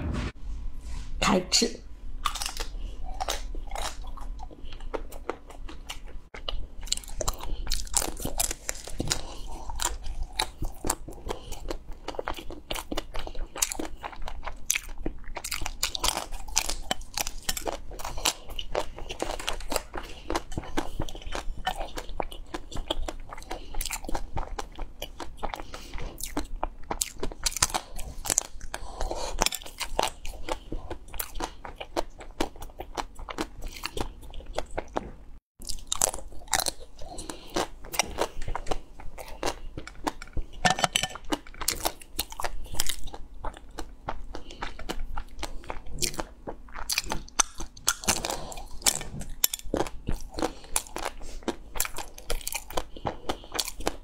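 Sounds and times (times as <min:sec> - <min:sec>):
wet chewing: 0:02.2 - 0:54.0.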